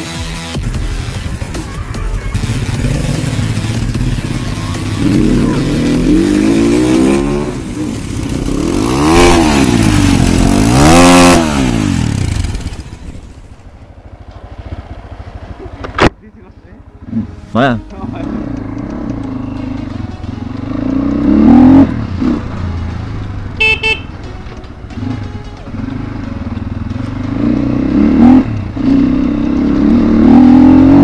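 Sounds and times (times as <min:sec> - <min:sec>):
dirt bike engine revving: 0:02.2 - 0:16.0, 0:18.0 - 0:24.1, 0:25.0 - 0:31.0.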